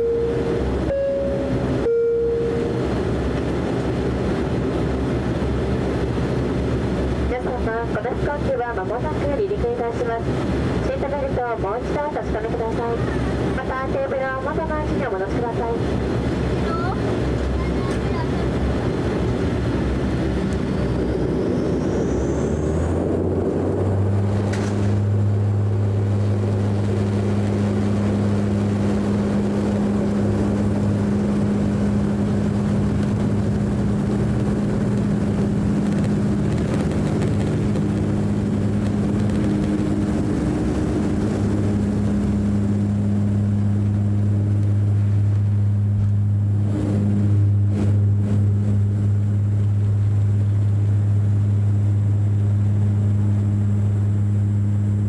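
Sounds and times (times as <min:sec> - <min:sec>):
deep propeller drone: 0:00.0 - 0:55.0
turboprop engine whine: 0:00.0 - 0:55.0.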